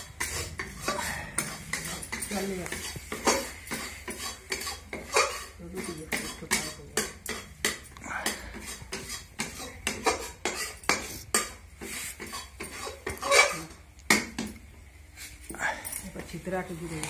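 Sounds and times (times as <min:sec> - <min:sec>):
metal spoon scraping a metal pan: 0:00.0 - 0:13.8.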